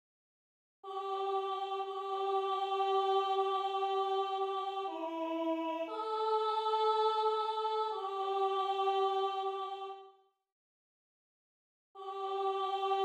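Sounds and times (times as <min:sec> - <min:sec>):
choral harmony held chords: 0:00.8 - 0:10.2, 0:12.0 - 0:13.0.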